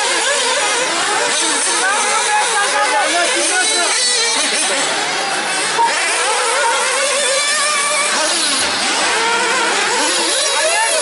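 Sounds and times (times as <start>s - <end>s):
small nitro engines whining: 0.0s - 11.0s.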